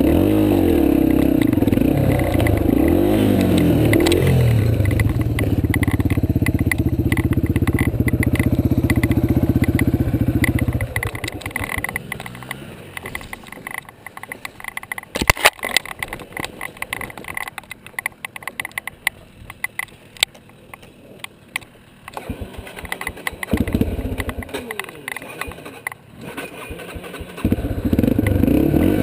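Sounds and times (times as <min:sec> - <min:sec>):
dirt bike engine running: 0:00.0 - 0:29.0
clicks and knocks: 0:01.0 - 0:26.0.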